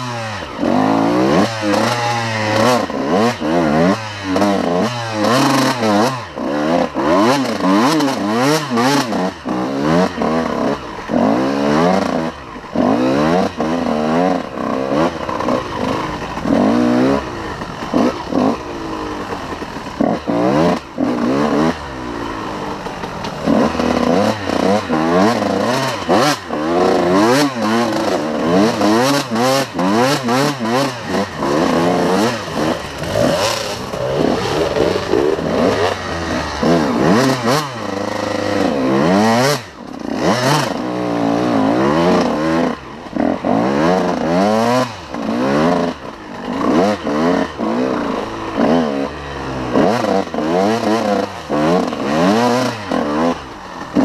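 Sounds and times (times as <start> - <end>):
knocks and clatter from bike: 0.0 - 49.0
dirt bike engine revving: 0.0 - 54.0.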